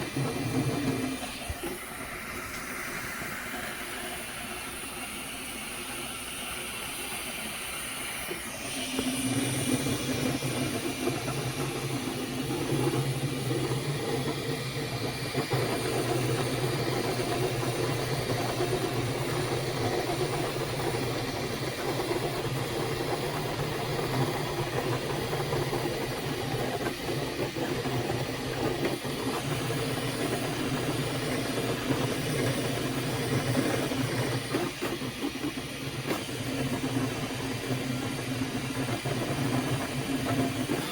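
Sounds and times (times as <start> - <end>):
hiss: 0.0 - 40.9
printer motors and fans humming: 0.0 - 40.9.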